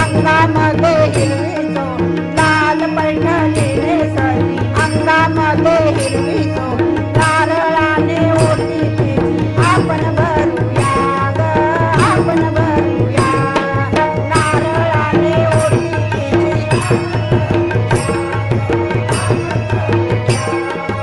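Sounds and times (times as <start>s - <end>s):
barrel drum: 0.0s - 21.0s
women singing in unison: 0.0s - 21.0s.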